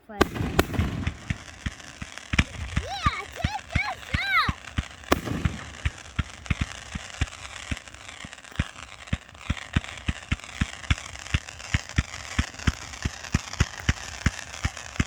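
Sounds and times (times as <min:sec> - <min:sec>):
firework bangs: 0:00.0 - 0:15.0
firework crackling hiss: 0:00.0 - 0:15.0.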